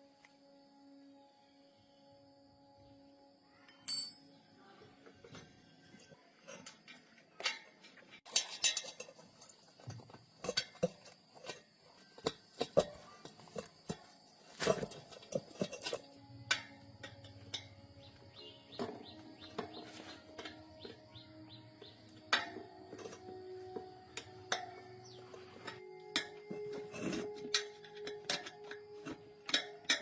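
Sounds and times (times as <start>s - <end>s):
faint background music: 0.0s - 30.0s
metal tools clinking: 3.8s - 4.4s, 6.0s - 30.0s.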